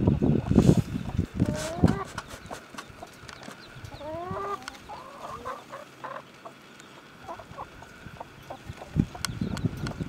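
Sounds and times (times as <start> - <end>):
hen clucking: 0.4 - 10.0.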